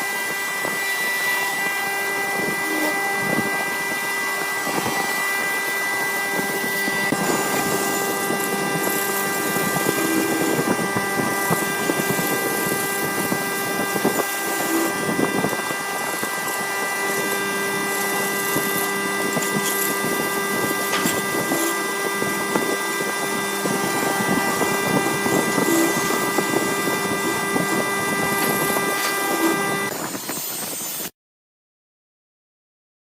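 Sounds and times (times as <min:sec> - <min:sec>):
wood lathe whining: 0:00.0 - 0:31.0.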